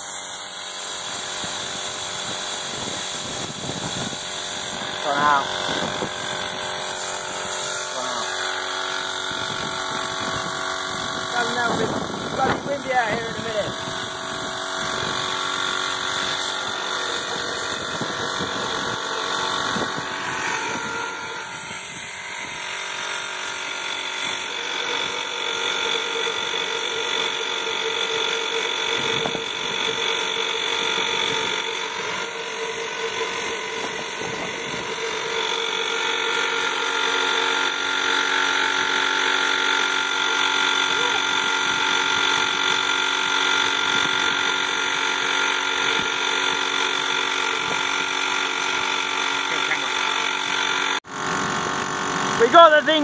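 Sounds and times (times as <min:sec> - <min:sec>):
electric air blower whining: 0:00.0 - 0:53.0.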